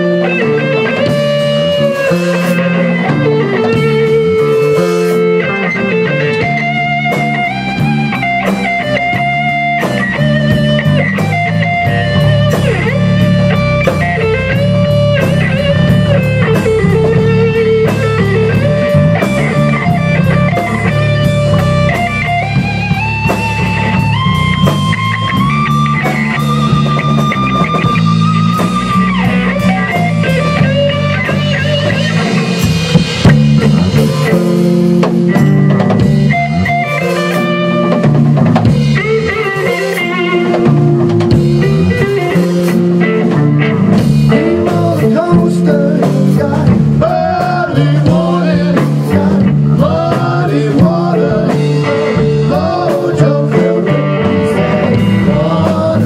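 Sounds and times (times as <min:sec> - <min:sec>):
bass guitar: 0:00.0 - 0:56.0
drum kit: 0:00.0 - 0:56.0
electric guitar lead: 0:00.0 - 0:56.0.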